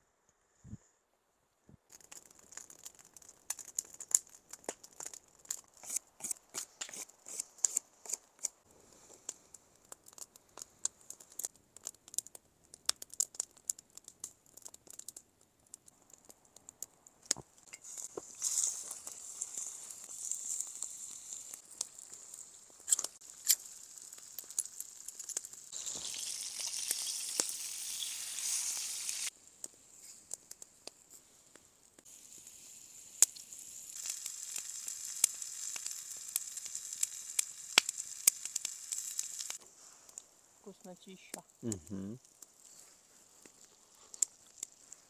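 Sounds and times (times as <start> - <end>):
fire pops and crackles: 1.9 - 45.0
food sizzling over a campfire: 1.9 - 45.0.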